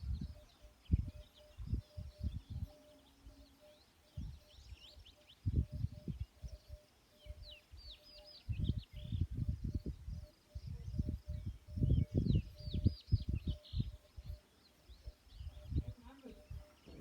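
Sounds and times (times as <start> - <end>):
small birds chirping and twittering: 0.0 - 17.0.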